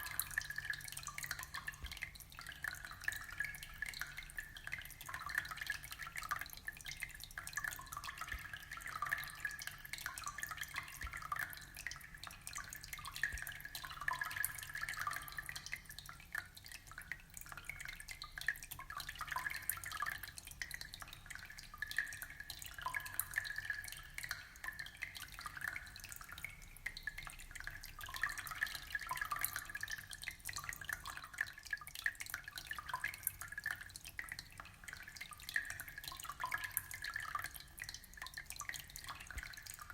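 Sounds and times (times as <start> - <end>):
aquarium water trickling and dripping: 0.0 - 39.9.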